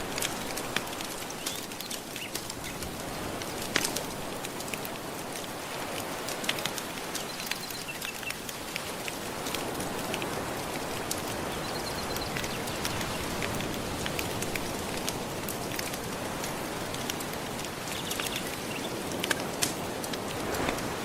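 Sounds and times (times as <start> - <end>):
fire crackling and popping: 0.0 - 21.0
gentle surf: 0.0 - 21.0.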